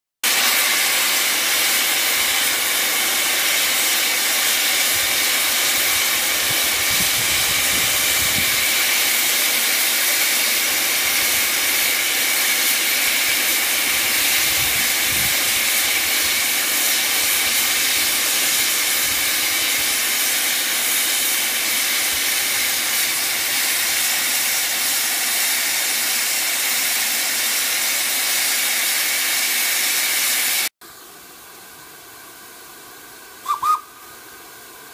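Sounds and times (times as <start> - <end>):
steam hissing from boiler: 0.2 - 34.9.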